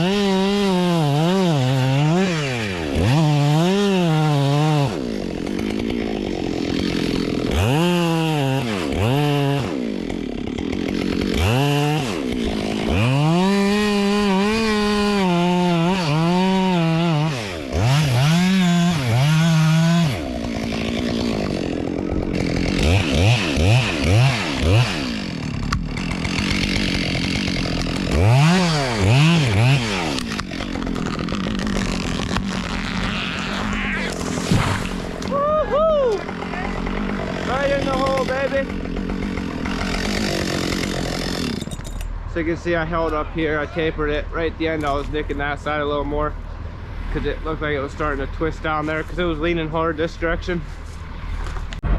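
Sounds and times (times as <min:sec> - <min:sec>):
chainsaw cutting wood: 0:00.0 - 0:42.2.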